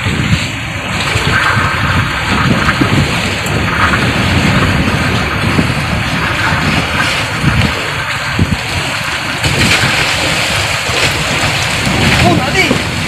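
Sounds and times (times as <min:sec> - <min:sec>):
waves splashing against boat: 0:00.0 - 0:13.0
wind buffeting microphone: 0:00.0 - 0:13.0.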